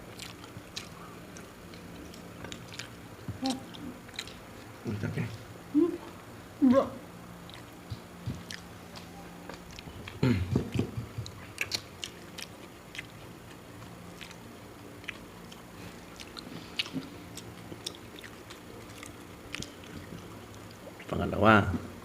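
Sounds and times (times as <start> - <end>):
chewing and biting: 0.0 - 4.8, 7.4 - 21.1
faint low hum: 0.0 - 22.0.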